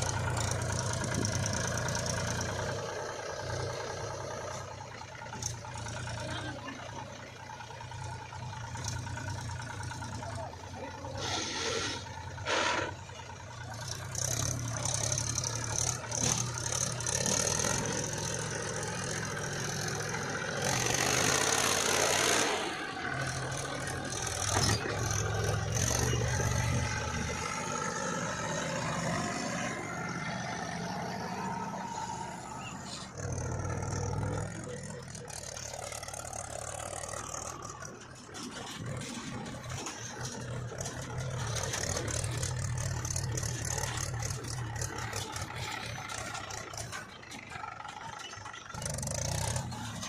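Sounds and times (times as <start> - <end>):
diesel machinery engine: 0.0 - 50.0.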